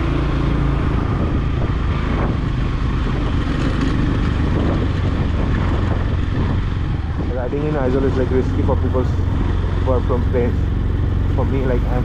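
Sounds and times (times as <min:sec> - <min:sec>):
motorbike engine running: 0:00.0 - 0:12.0
road noise: 0:00.0 - 0:12.0.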